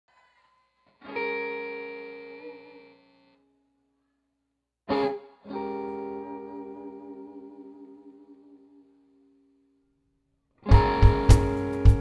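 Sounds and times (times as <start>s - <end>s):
electric guitar chord ringing: 0.1s - 3.7s, 4.9s - 9.6s, 10.6s - 12.0s.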